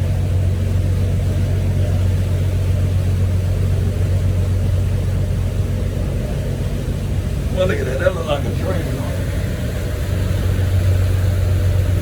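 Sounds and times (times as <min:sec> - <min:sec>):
motorboat engines droning: 0:00.0 - 0:12.0.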